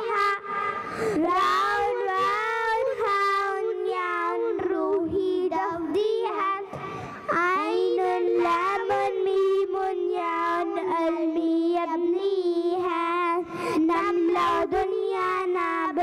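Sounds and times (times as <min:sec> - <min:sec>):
children singing into microphones: 0:00.0 - 0:16.0.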